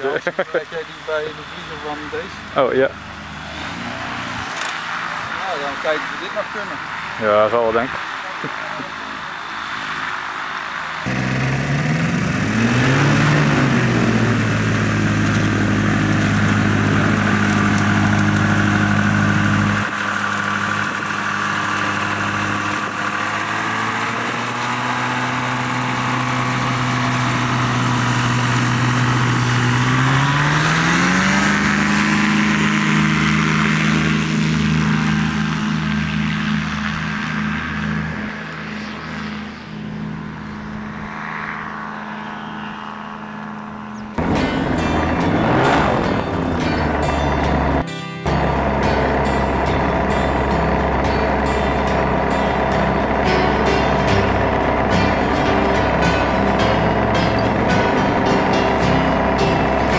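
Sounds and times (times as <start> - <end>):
ultralight aircraft engine: 0.0 - 59.9.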